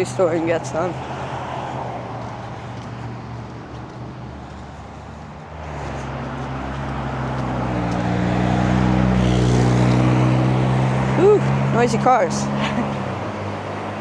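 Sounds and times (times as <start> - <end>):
noisy car engine approaching: 0.0 - 14.0
traffic noise: 0.0 - 14.0.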